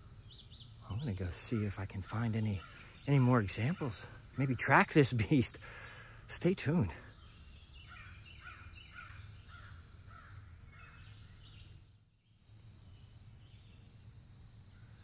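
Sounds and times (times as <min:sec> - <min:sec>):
high bird chirps: 0:00.0 - 0:15.0
woodland bird calls: 0:00.0 - 0:15.0.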